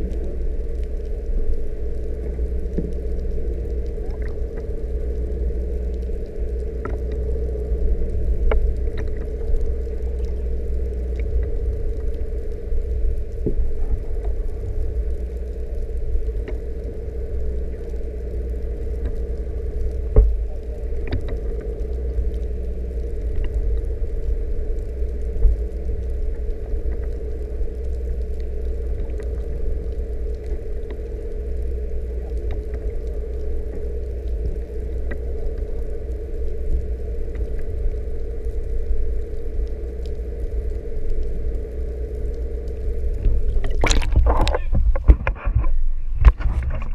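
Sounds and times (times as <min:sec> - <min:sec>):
faint clicks: 0:00.0 - 0:45.2
constant hum: 0:00.0 - 0:46.9
underwater low rumble: 0:00.0 - 0:46.9.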